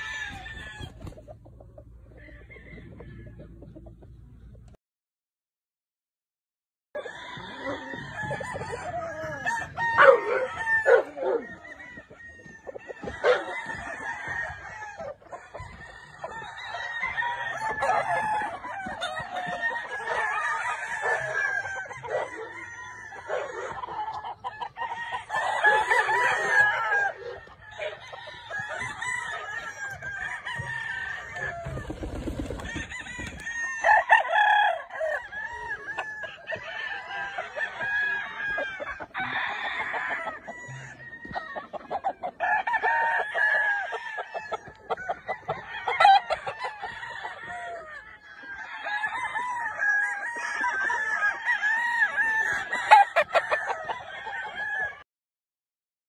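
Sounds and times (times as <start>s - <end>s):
roosters crowing and clucking: 0.0s - 4.8s, 7.0s - 55.0s.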